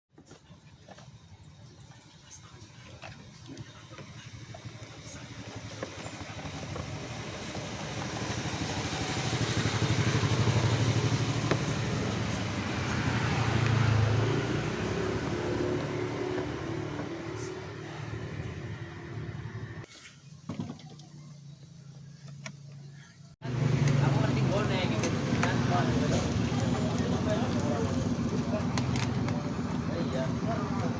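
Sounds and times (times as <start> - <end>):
motorcycle engine running: 0.3 - 19.9, 20.7 - 30.9.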